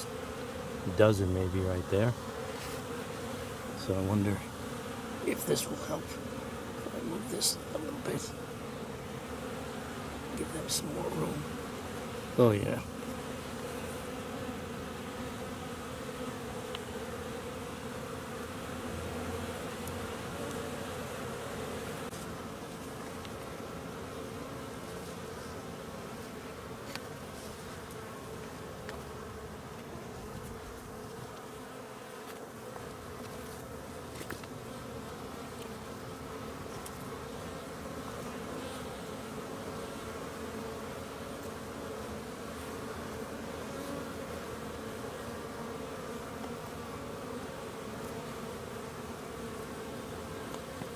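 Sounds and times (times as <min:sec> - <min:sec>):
bees buzzing: 0:00.0 - 0:50.9.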